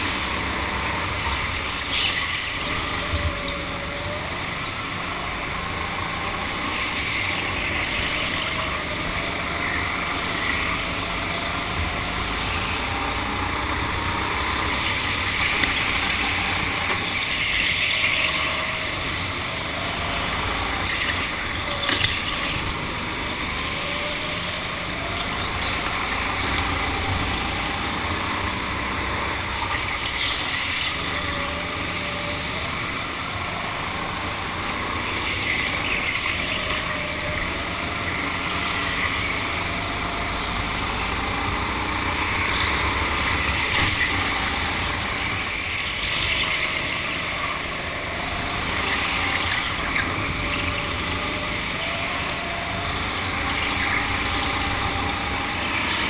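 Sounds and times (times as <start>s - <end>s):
go-kart motor: 0.0s - 56.0s.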